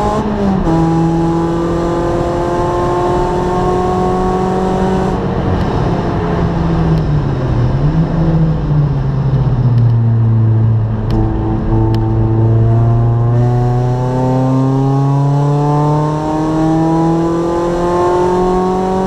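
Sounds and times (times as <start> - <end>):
race car engine revving: 0.0 - 7.1, 10.1 - 19.0.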